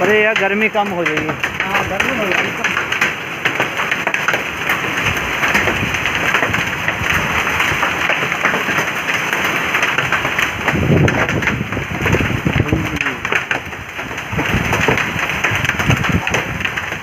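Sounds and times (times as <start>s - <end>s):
hailstones striking: 0.0s - 17.0s
heavy rain hissing: 0.0s - 17.0s.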